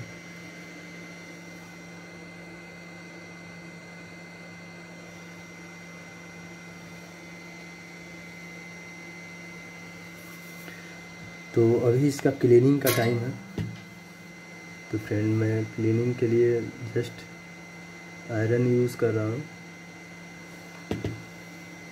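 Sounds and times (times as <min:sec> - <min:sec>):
electrical hum and hiss: 0:00.0 - 0:21.9.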